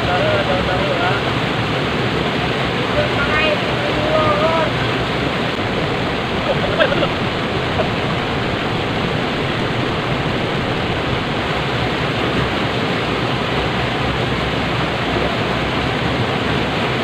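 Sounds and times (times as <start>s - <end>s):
turbulent white water rushing: 0.0s - 17.0s.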